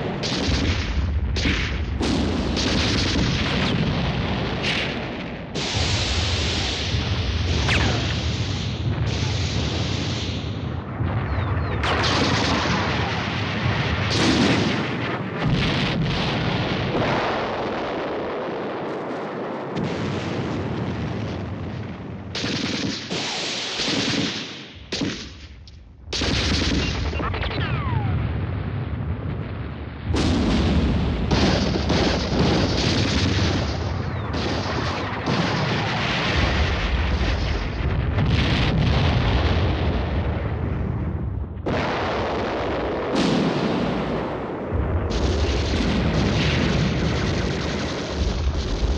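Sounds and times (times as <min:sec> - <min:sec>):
dense gunfire: 0:00.0 - 0:48.9
explosions: 0:00.0 - 0:48.9.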